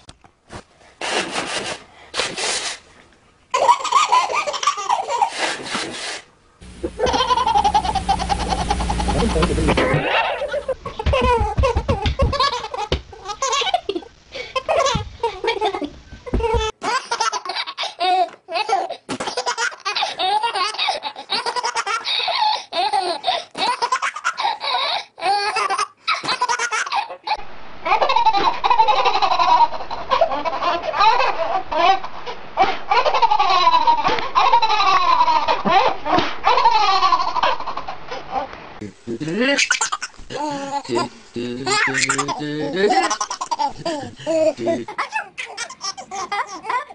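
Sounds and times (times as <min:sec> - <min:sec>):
babies laughing hard: 0:03.6 - 0:05.6, 0:06.7 - 0:13.9, 0:16.4 - 0:38.5, 0:39.4 - 0:46.9.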